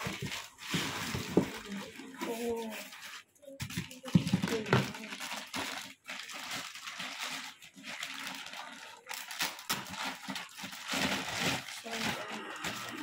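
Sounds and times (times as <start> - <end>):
plastic bag crinkling and rustling: 0.0 - 13.0.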